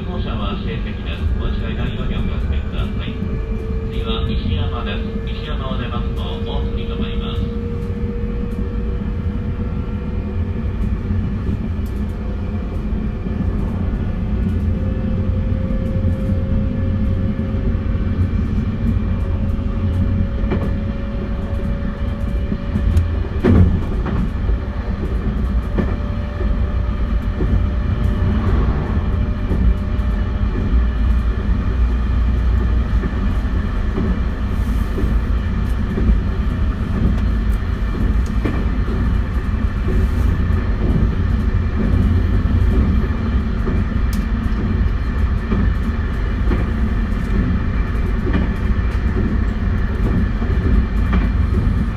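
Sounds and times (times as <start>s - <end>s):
wheels rumbling on rail: 0.0s - 51.9s
clicks of wheels on rail: 0.2s - 51.9s.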